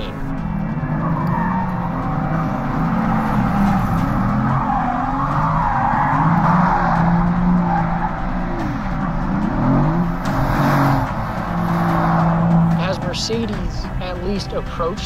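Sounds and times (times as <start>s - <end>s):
tyres squealing: 0.0s - 14.5s
car engine at high revs: 0.0s - 15.0s.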